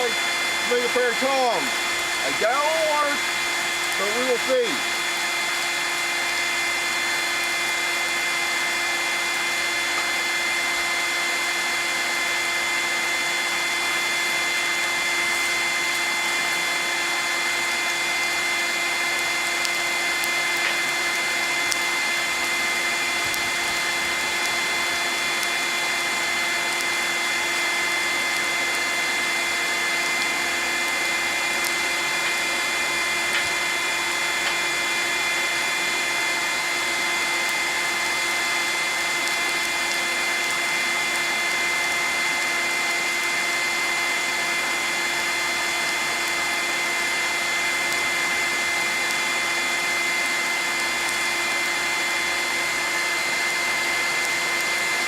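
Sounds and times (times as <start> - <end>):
electric blower rushing air: 0.0 - 55.0.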